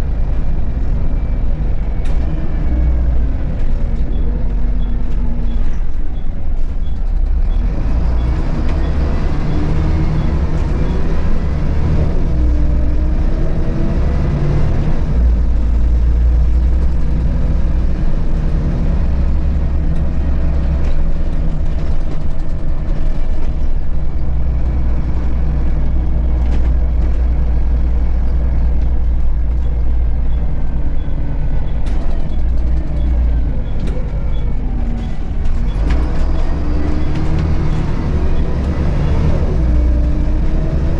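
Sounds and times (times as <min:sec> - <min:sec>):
bus diesel engine rumbling: 0:00.0 - 0:40.9.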